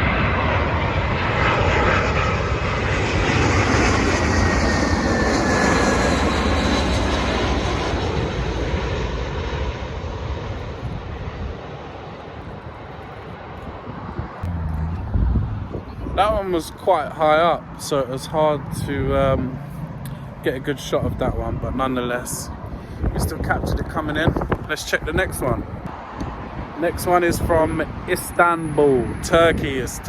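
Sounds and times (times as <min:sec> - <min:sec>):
high engine whine: 0:00.0 - 0:30.0
jet airliner flying over: 0:00.0 - 0:30.0.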